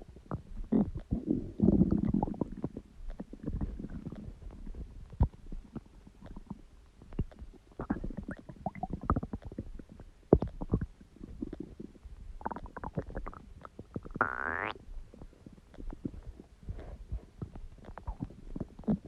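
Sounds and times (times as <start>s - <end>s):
stomach gurgling and rumbling: 0.0s - 19.0s.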